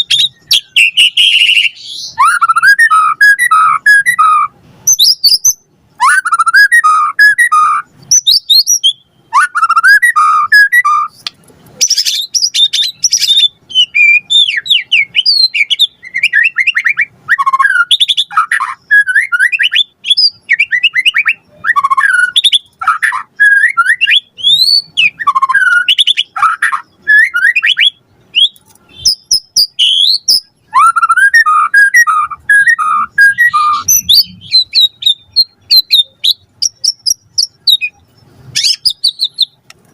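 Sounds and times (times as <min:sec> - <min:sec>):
bird singing whistles and trills: 0:00.0 - 0:39.6.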